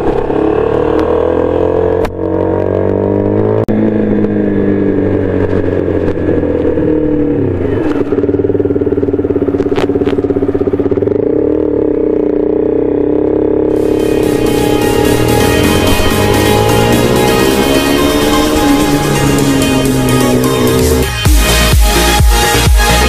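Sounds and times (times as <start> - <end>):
motorcycle engine slowing and idling: 0.0 - 23.0.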